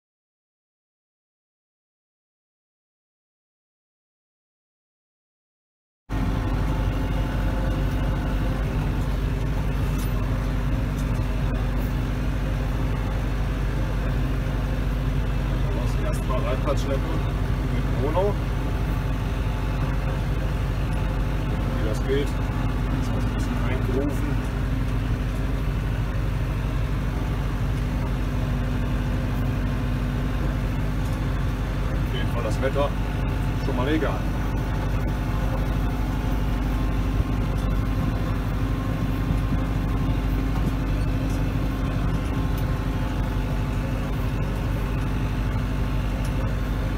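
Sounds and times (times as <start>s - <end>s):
tractor diesel engine running: 6.1s - 46.9s.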